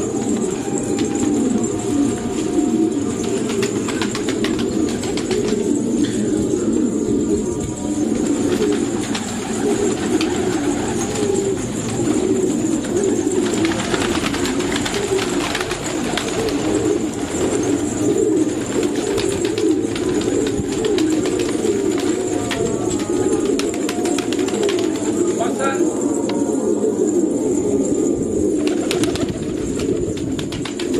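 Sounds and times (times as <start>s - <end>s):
pigeons cooing: 0.0s - 30.9s.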